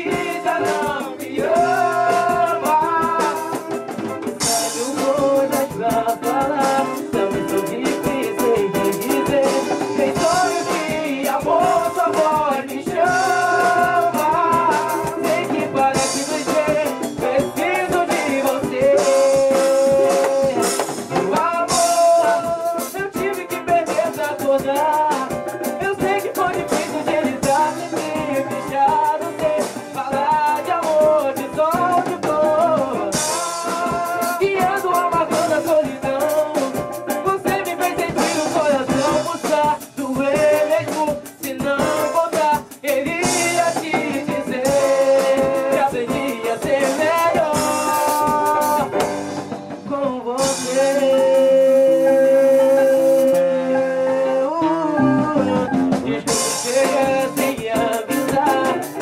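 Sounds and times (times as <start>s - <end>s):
band playing strings and percussion: 0.0s - 59.0s
man singing into microphone: 0.0s - 59.0s.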